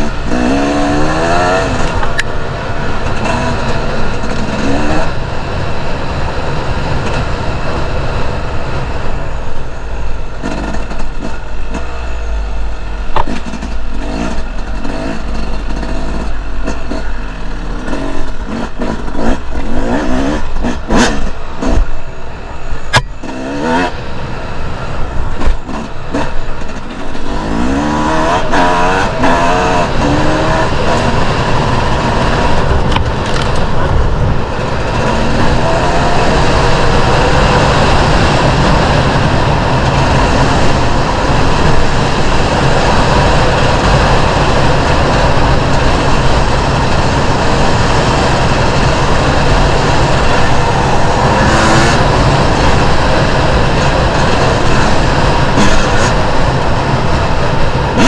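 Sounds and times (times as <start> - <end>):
dirt bike engine revving: 0.0 - 5.9, 9.7 - 22.2, 22.8 - 58.0.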